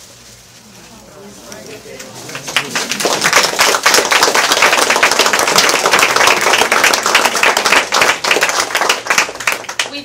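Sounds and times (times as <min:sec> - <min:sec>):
people applauding: 0:02.0 - 0:10.0.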